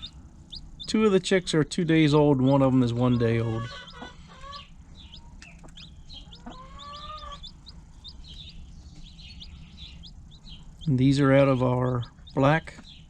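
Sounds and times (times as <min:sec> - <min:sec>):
hen calling: 0:00.0 - 0:01.2, 0:02.1 - 0:13.0
chicks peeping: 0:00.0 - 0:13.0.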